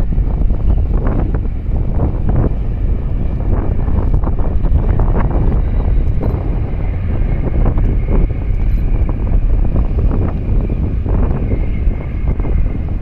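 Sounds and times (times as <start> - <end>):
faint high whine: 0.0 - 13.0
low rumble: 0.0 - 13.0
wind buffeting microphone: 0.0 - 13.0.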